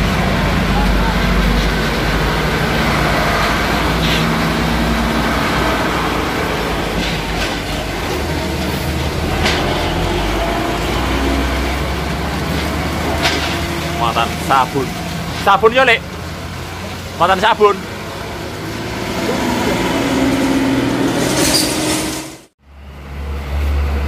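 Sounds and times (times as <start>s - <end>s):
diesel truck driving past: 0.0s - 24.0s.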